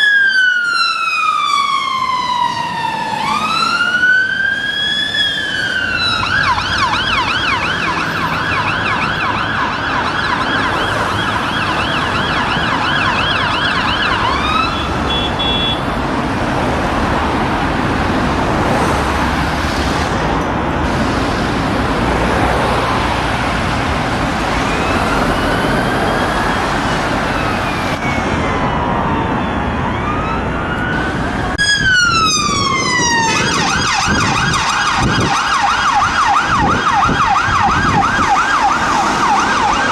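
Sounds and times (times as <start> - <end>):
emergency vehicle siren: 0.0 - 39.9
road traffic noise: 0.0 - 39.9.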